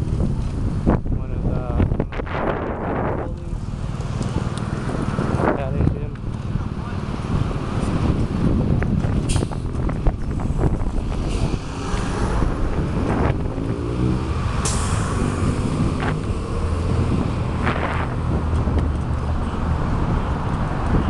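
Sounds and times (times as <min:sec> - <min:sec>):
road traffic: 0:00.0 - 0:21.0
wind buffeting microphone: 0:00.0 - 0:21.0
motor vehicle passing: 0:02.4 - 0:21.0.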